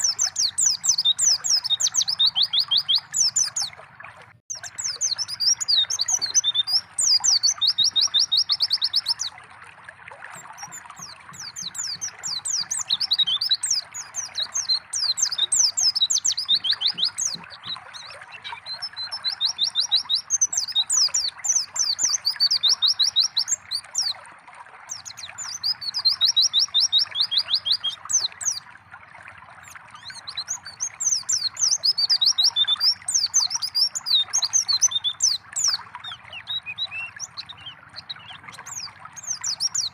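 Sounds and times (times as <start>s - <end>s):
birds twittering and trilling: 0.0s - 3.8s, 4.5s - 9.4s, 10.3s - 24.2s, 24.9s - 28.7s, 29.6s - 39.9s
trickling water: 0.0s - 39.9s.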